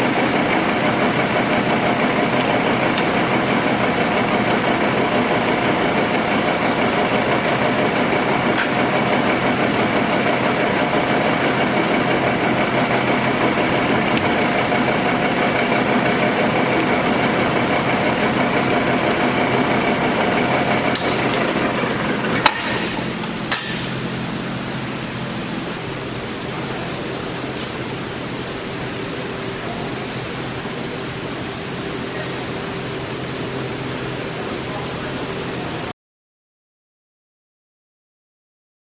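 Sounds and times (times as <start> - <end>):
lathe geared whine: 0.0 - 35.9.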